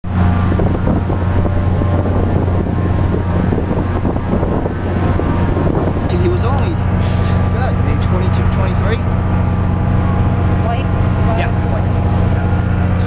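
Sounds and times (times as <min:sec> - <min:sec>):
low engine hum: 0:00.0 - 0:13.0
wind noise on microphone: 0:00.0 - 0:13.0.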